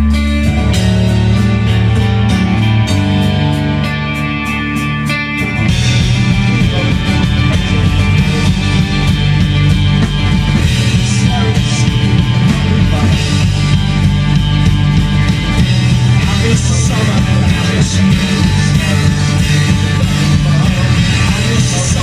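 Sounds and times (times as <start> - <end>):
punk rock band playing: 0.0 - 22.0.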